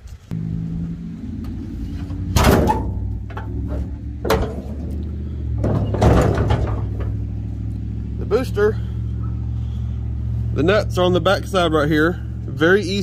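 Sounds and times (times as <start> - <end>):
engine idling: 0.3 - 13.0.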